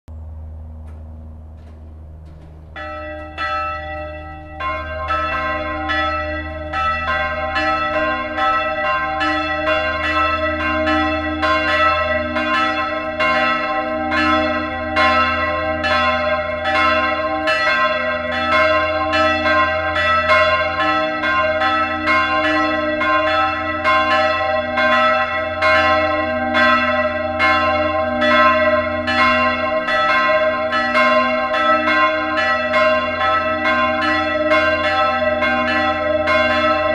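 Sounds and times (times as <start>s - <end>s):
church bells pealing: 0.1s - 36.9s.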